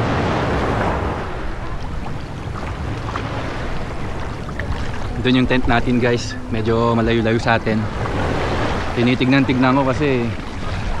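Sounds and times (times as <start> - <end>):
sea surf washing on shore: 0.0 - 11.0
wind buffeting microphone: 0.0 - 11.0.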